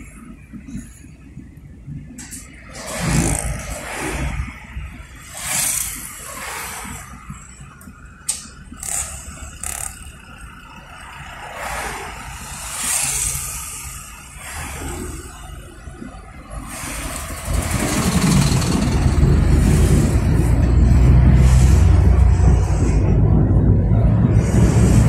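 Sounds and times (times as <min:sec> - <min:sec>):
traffic noise inside moving car: 0:00.0 - 0:25.0.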